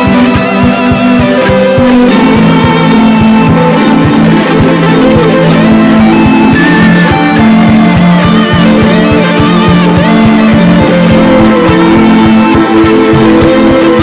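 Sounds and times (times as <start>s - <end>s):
instrumental worship music with beat: 0.0s - 14.0s.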